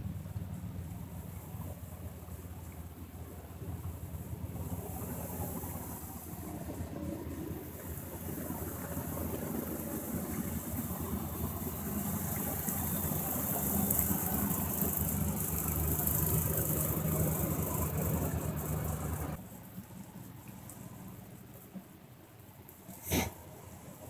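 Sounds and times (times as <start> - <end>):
car engine running: 0.0 - 21.8.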